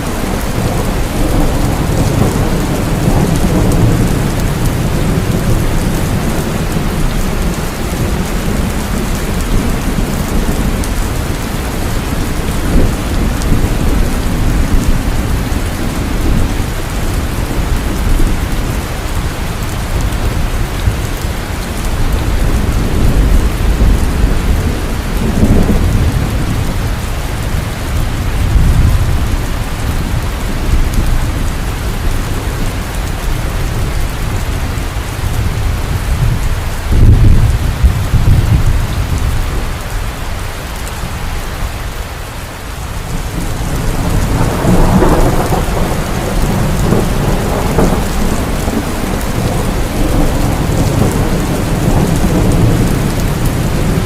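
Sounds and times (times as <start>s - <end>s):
thunder rumbling low: 0.0s - 40.2s, 43.0s - 54.0s
heavy rain: 0.0s - 54.0s.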